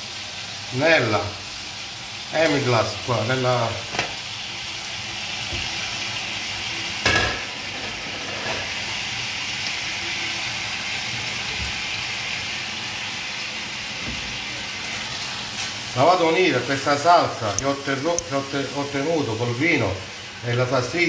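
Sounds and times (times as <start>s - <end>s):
sauce sizzling in frying pan: 0.0s - 21.0s.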